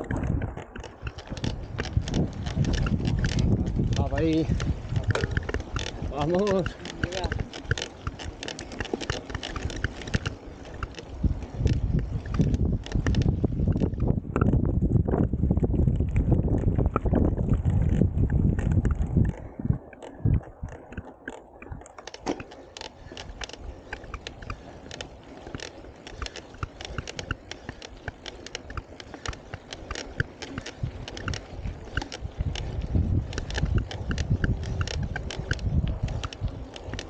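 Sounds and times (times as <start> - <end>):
bike parts rattling: 0.0 - 14.5, 16.4 - 37.0
bike tyres crunching on dirt: 0.0 - 37.0
wind buffeting microphone: 0.0 - 37.0.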